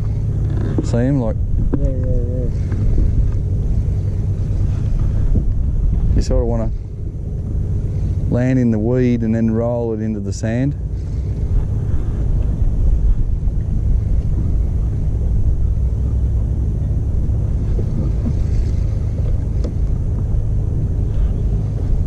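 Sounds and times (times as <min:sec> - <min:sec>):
boat low rumble: 0:00.0 - 0:22.0
wind buffeting microphone: 0:00.0 - 0:22.0.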